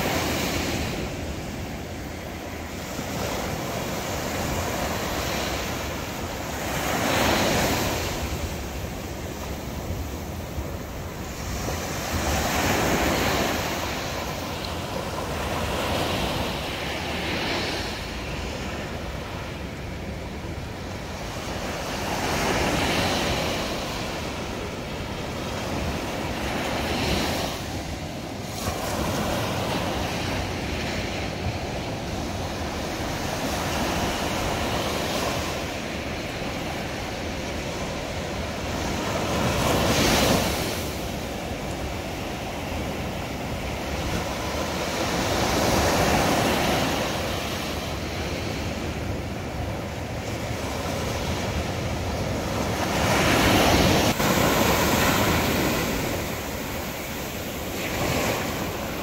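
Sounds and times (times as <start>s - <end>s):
waves washing up a beach: 0.0s - 59.0s.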